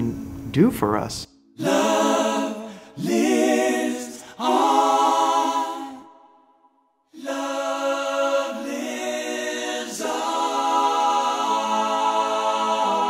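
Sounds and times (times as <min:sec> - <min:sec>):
choir-like sung chords: 0:01.5 - 0:13.0.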